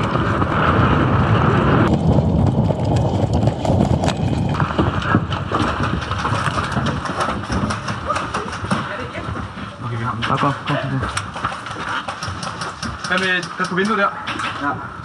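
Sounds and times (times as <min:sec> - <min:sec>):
running footsteps: 0:01.8 - 0:14.6.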